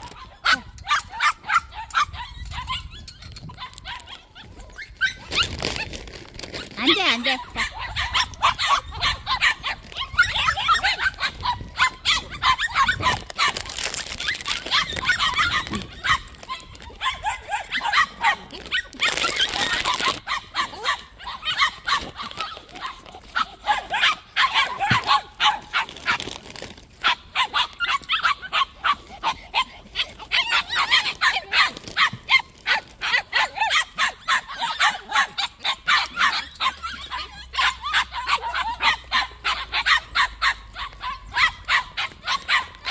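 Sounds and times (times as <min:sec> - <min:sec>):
puppies barking and yipping: 0:00.0 - 0:42.9.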